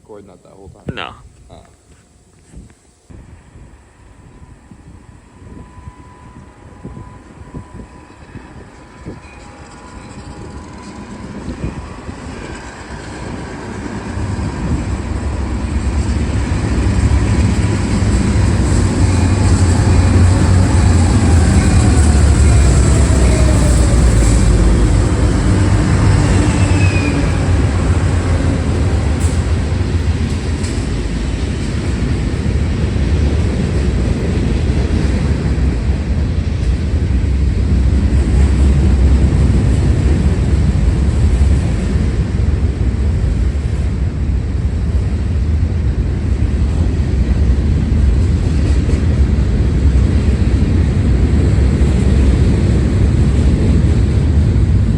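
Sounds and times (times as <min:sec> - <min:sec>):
freight train rumbling past: 0:00.0 - 0:54.9.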